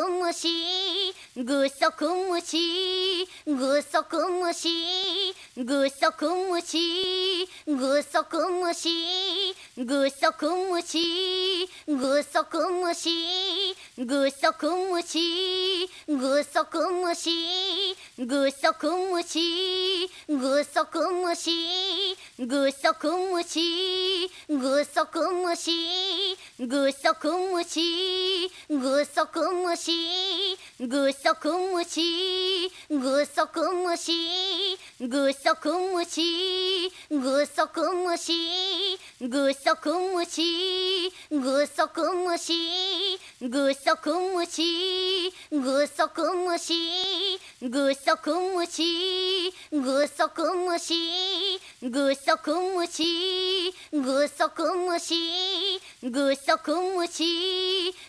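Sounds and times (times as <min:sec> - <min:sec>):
girl singing a chanted phrase: 0:00.0 - 0:58.0.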